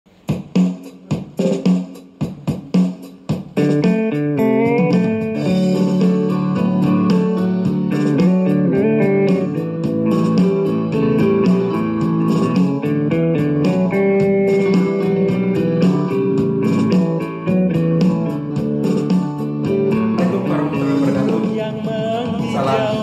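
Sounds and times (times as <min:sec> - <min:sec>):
guitar instrumental music: 0:03.4 - 0:23.0
bass line: 0:03.6 - 0:23.0.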